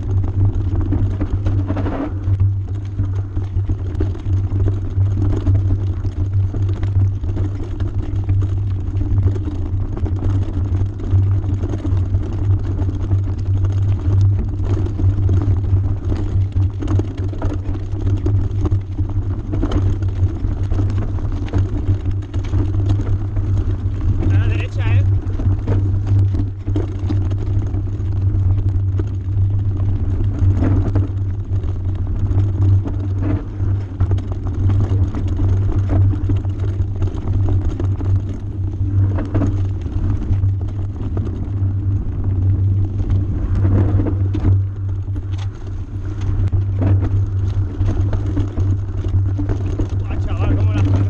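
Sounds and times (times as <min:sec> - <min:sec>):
wind and trail rumble: 0:00.0 - 0:51.0.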